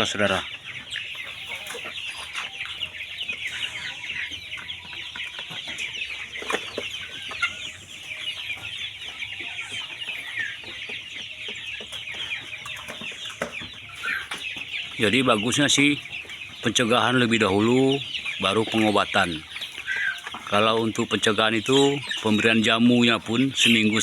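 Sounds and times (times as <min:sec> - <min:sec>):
chickens chirping and clucking: 0:00.0 - 0:24.0.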